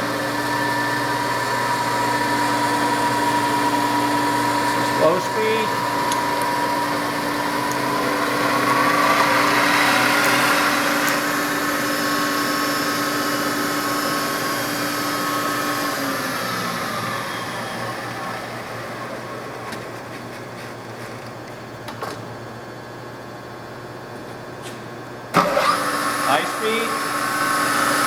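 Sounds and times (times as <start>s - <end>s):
milling machine spindle whine: 0.0s - 21.7s, 25.4s - 28.0s.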